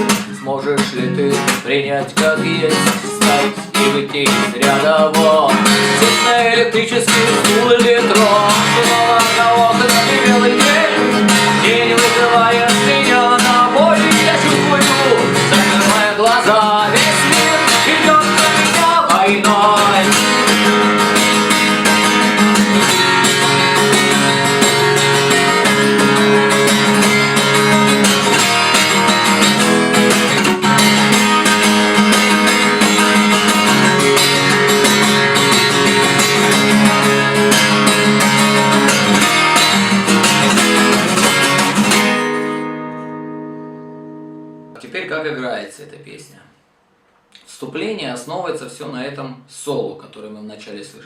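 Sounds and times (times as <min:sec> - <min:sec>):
acoustic guitar strumming: 0:00.0 - 0:45.5.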